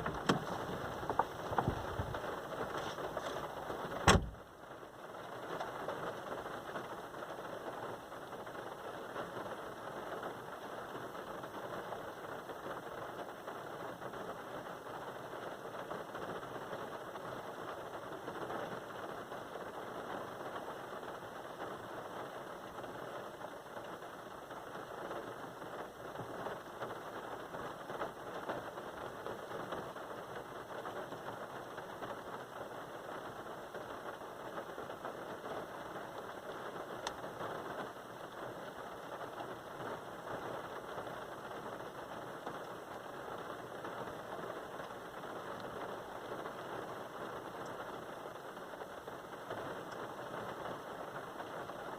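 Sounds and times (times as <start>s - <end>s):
rain falling: 0.0s - 51.9s.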